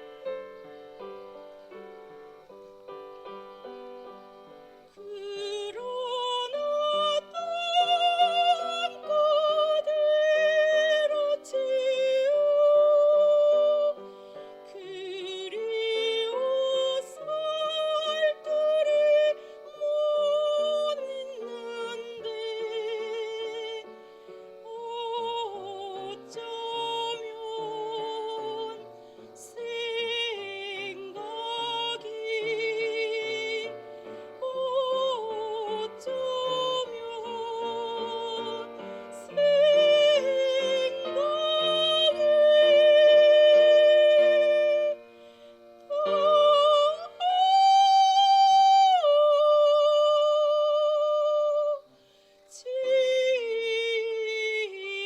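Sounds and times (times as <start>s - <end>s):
woman singing operatically: 5.0s - 14.0s, 14.6s - 23.9s, 24.6s - 45.1s, 45.9s - 51.9s, 52.5s - 55.0s.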